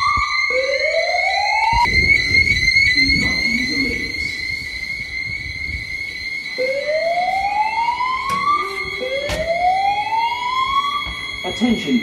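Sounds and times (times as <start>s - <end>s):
high-pitched fire alarm tone: 0.0s - 12.0s
rising whoop alarm: 0.0s - 12.0s.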